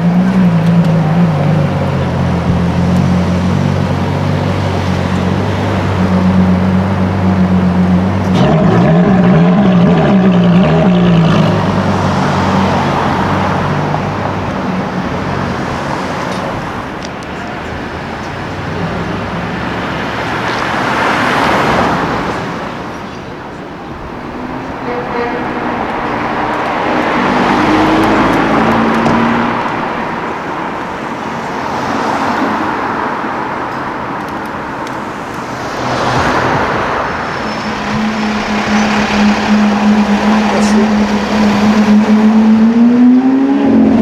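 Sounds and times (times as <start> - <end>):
car engine low note: 0.0 - 44.0
cars passing: 0.0 - 44.0.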